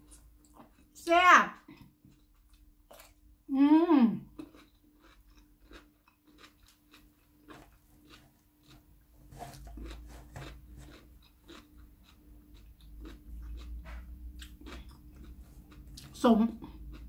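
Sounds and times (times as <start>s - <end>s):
person chewing: 0.0s - 3.3s, 4.3s - 17.0s
faint steady hum: 0.0s - 17.0s
mouth clicks and crunches: 1.7s - 3.2s, 4.3s - 17.0s.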